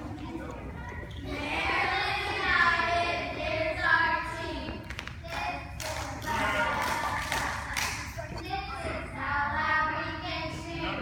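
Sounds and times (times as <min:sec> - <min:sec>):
girls singing together: 0:01.1 - 0:11.0.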